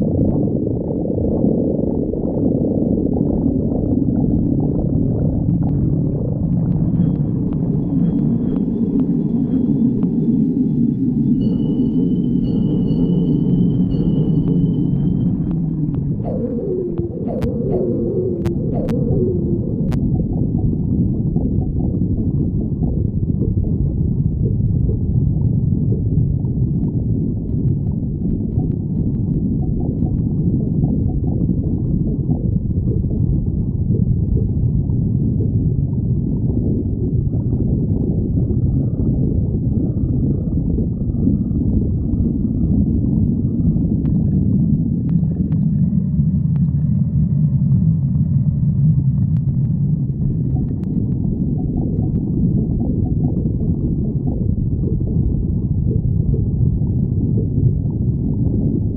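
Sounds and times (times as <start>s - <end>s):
stomach growling: 0.0s - 10.6s, 13.8s - 58.9s.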